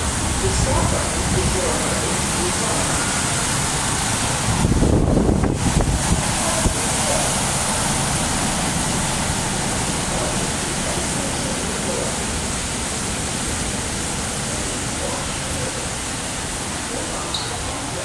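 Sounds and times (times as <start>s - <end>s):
distant indistinct voices: 0.0s - 18.0s
train station concourse roar: 0.0s - 18.0s.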